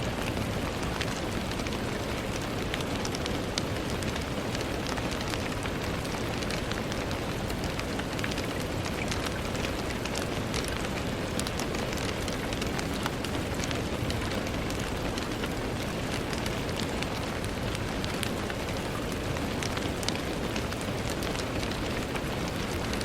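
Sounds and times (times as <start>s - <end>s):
rain on a window pane: 0.0s - 23.0s.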